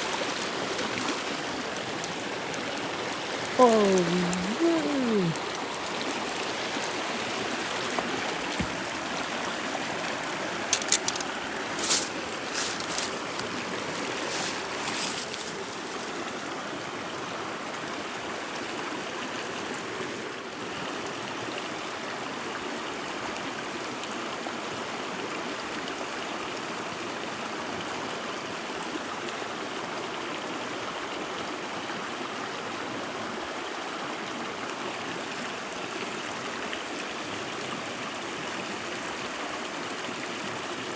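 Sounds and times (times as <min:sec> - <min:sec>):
mountain stream flowing: 0:00.0 - 0:40.9.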